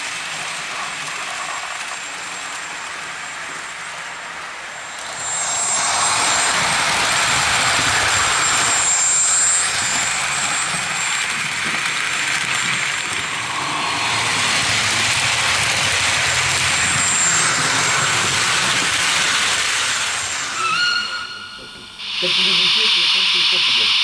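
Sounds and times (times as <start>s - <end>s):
model trains whirring rumble: 0.0s - 24.0s
faint high whine: 1.8s - 24.0s.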